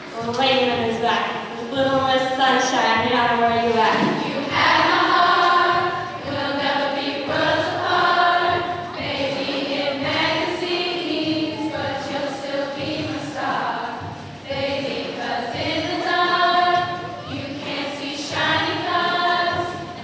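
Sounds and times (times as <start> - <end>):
choir singing: 3.9 - 20.0.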